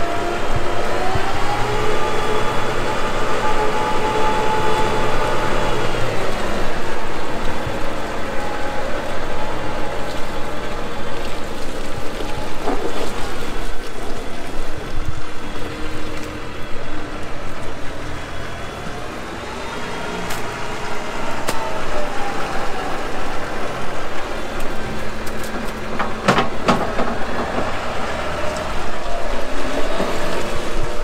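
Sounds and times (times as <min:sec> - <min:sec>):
tractor engine revving: 0:00.0 - 0:31.0.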